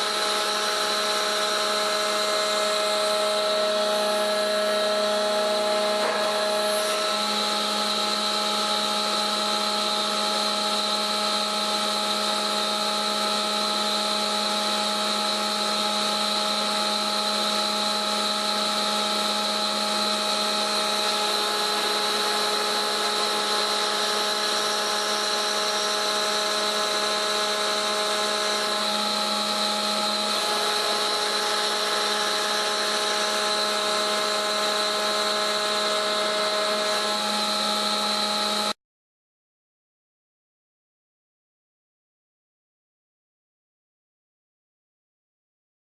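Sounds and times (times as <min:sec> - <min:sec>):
machine whining steadily: 0:00.0 - 0:38.8.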